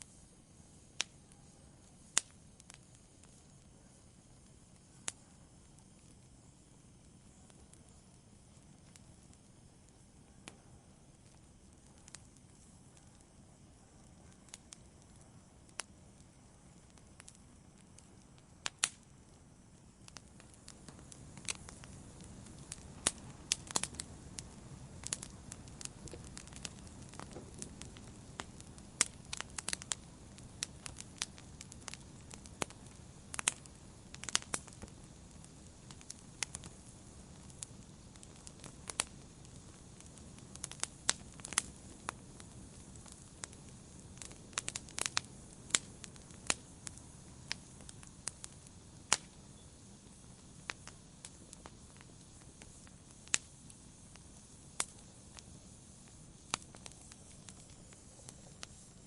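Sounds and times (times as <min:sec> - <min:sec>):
campfire crackling and popping: 0:00.0 - 0:59.0
low rush of burning: 0:00.0 - 0:59.0.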